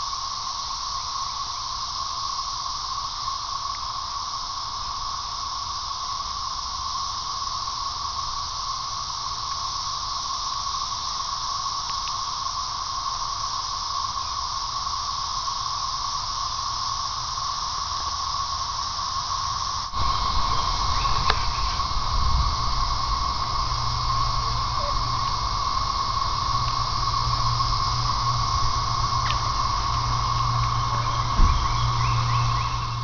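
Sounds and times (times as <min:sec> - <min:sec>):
cicadas droning: 0:00.0 - 0:33.0.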